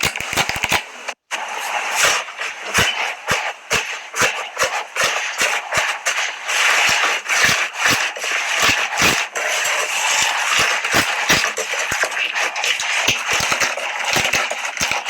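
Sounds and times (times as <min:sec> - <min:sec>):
sharp pops and clicks: 0:00.0 - 0:01.2, 0:02.6 - 0:15.0.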